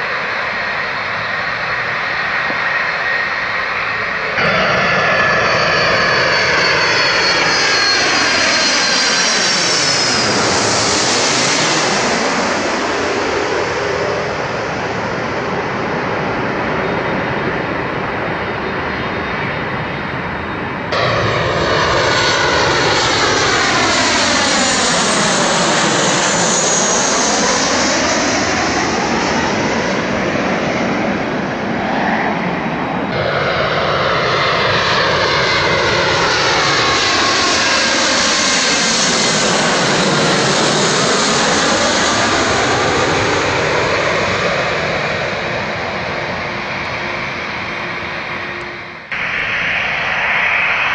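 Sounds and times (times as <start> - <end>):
jet airliners passing overhead: 0.0 - 50.9.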